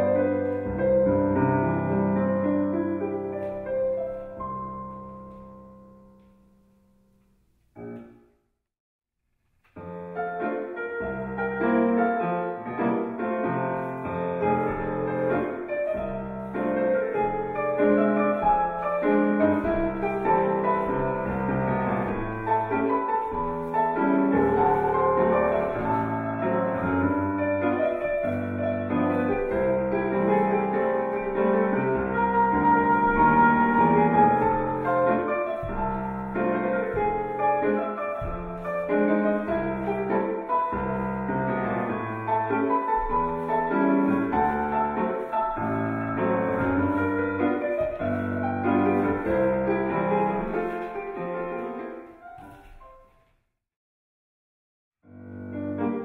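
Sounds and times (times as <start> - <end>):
solo piano music: 0.0 - 8.5, 9.6 - 53.4, 55.0 - 56.0.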